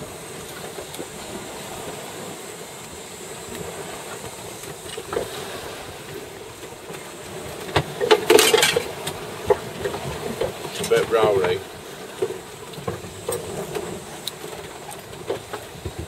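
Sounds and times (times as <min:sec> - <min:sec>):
rushing water and wind: 0:00.0 - 0:16.0.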